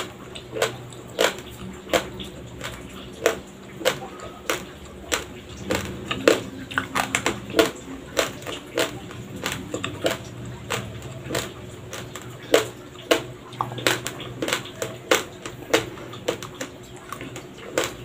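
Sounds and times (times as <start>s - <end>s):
rice grains crunching between teeth: 0.0s - 18.0s.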